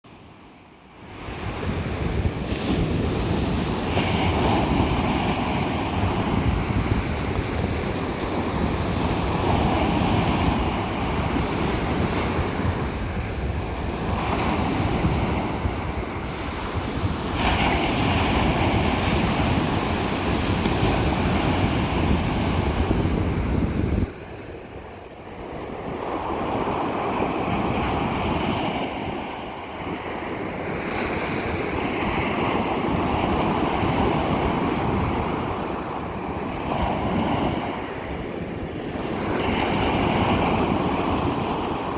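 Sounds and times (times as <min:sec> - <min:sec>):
ocean surf breaking: 0:01.0 - 0:41.9.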